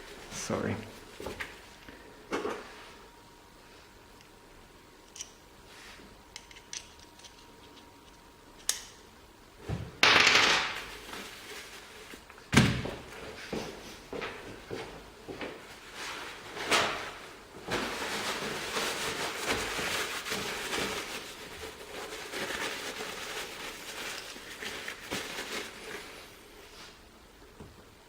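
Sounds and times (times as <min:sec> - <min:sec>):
continuous handling noise: 0:00.0 - 0:28.0.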